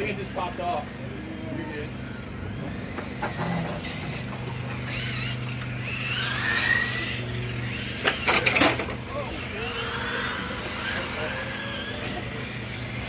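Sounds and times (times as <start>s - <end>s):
toy car motors whining: 1.2s - 13.0s.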